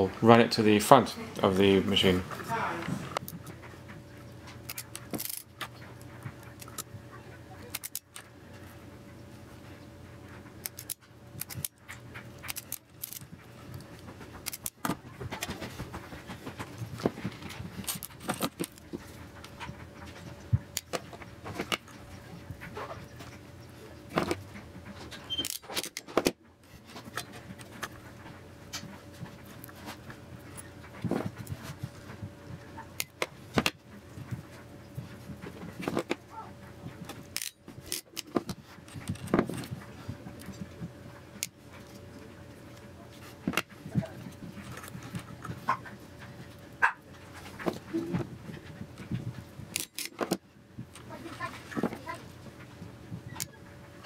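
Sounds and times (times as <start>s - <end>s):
clicks and rustles of hands working wires: 2.4s - 8.8s, 10.3s - 54.0s.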